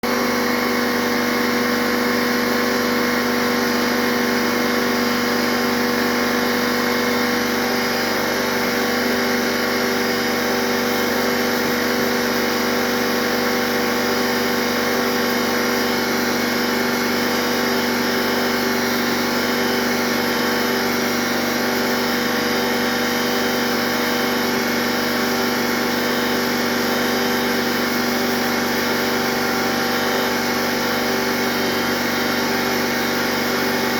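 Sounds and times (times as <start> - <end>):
motor running steadily: 0.0 - 33.9.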